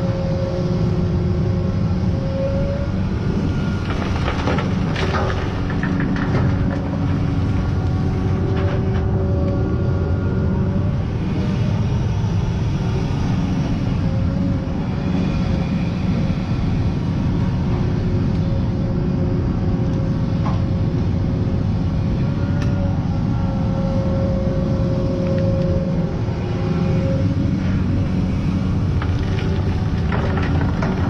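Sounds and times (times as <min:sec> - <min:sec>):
excavator diesel engine running: 0:00.1 - 0:31.0.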